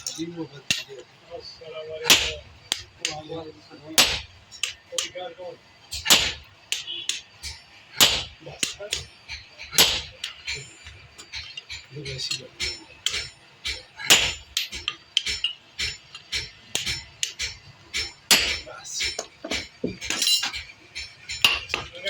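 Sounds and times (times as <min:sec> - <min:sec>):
hammer striking metal: 0:02.0 - 0:03.3, 0:03.9 - 0:05.2, 0:05.9 - 0:22.0.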